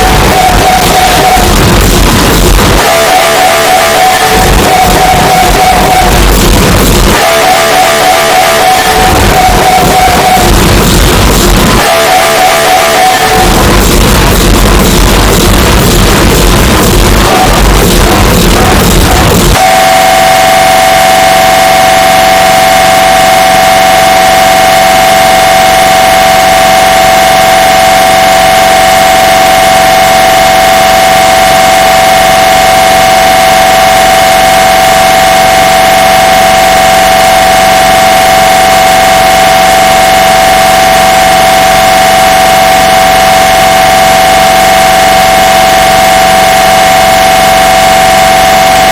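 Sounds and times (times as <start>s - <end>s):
distorted noisy blast: 0.0s - 48.9s
scanner high-pitched buzz: 0.0s - 48.9s.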